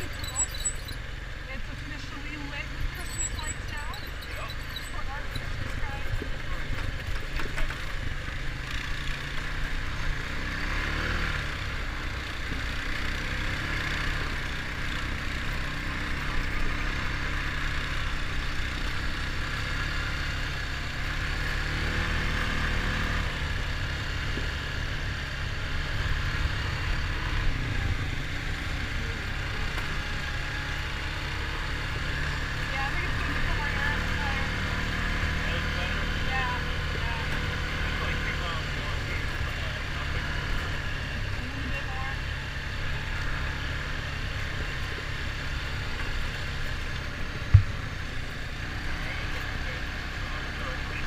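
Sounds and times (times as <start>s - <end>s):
quad bike engine running: 0.0s - 51.0s.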